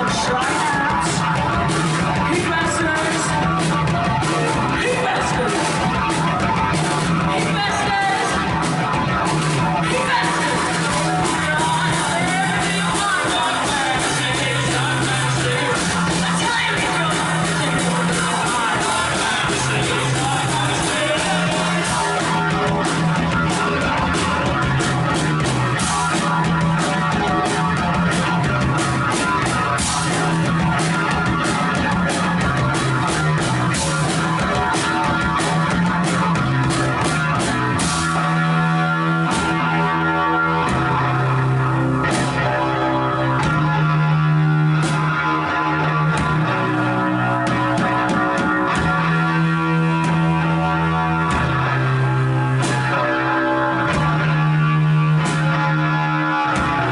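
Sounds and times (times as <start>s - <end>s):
distorted electric guitar: 0.0s - 56.9s
drum kit: 0.0s - 56.9s.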